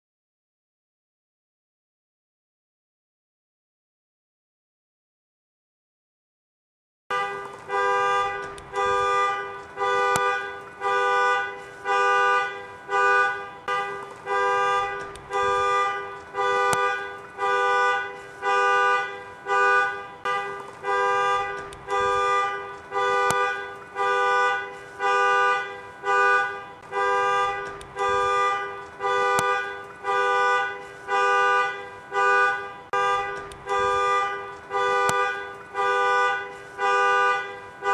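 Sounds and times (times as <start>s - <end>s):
car horn alarm honking: 7.1s - 37.9s.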